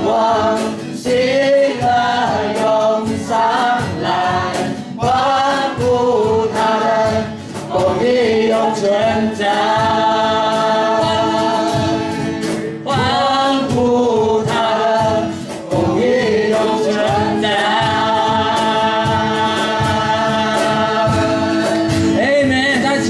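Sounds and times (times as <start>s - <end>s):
people singing together: 0.0s - 23.0s
strummed acoustic guitar: 0.0s - 23.0s.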